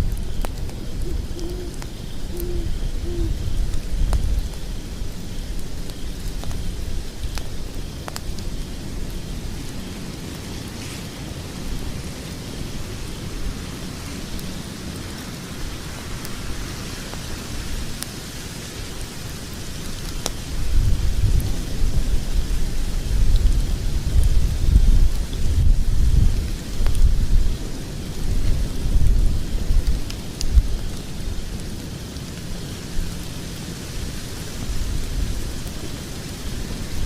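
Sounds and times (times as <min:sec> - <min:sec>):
fire crackles: 0:00.0 - 0:37.0
log fire rumbling and hissing: 0:00.0 - 0:37.0.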